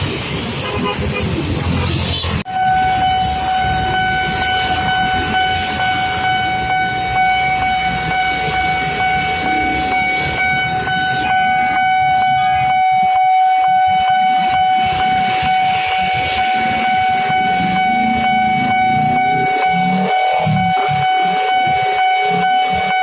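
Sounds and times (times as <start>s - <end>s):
electric train rumbling past: 0.0s - 23.0s
level crossing alarm high tone: 2.5s - 23.0s.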